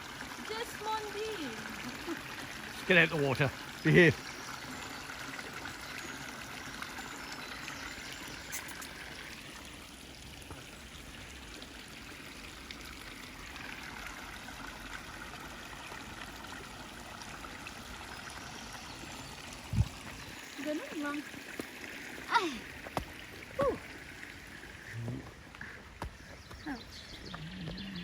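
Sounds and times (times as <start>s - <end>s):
stream flowing over stones: 0.0s - 28.0s.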